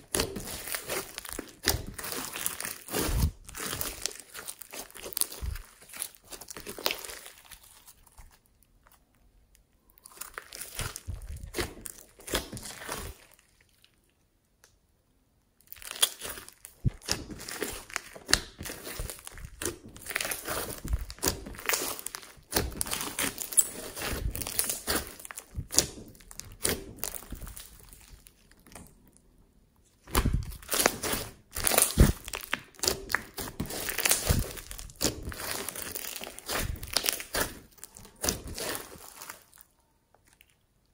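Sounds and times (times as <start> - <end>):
slime crackling and popping: 0.0 - 14.2, 15.6 - 29.2, 30.0 - 40.7.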